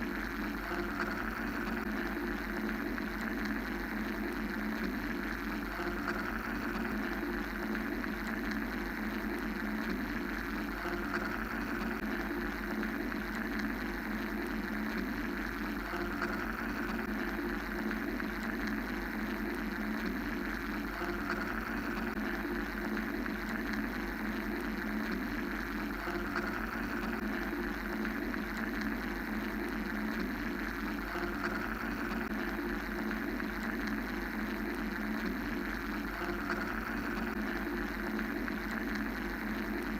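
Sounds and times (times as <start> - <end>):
mechanical droning hiss: 0.0 - 39.9.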